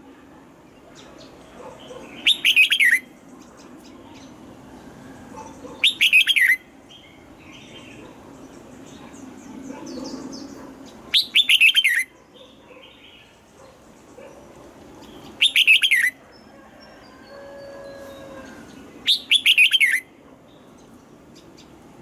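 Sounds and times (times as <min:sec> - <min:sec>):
bird singing rapid phrases: 0:00.8 - 0:04.5, 0:05.4 - 0:16.5, 0:18.7 - 0:22.0
soft bird twittering: 0:00.9 - 0:04.4, 0:05.4 - 0:16.2, 0:17.1 - 0:21.8.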